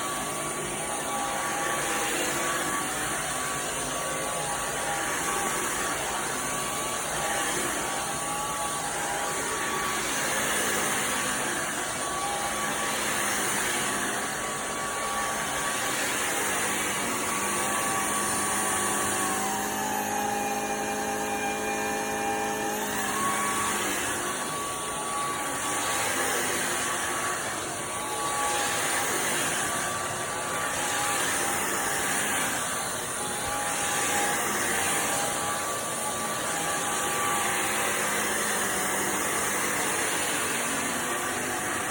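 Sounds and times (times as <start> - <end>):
stick vacuum motor whine: 0.0 - 41.9.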